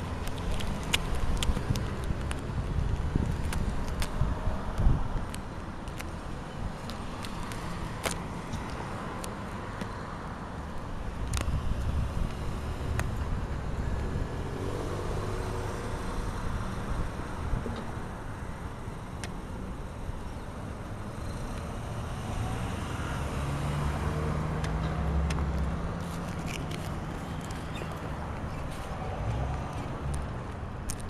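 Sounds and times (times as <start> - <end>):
road traffic rumble: 0.0 - 31.0
vehicle engine hum: 0.0 - 31.0.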